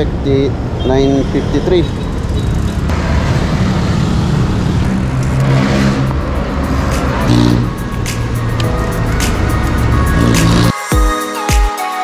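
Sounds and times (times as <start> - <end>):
road traffic passing: 0.0 - 10.8.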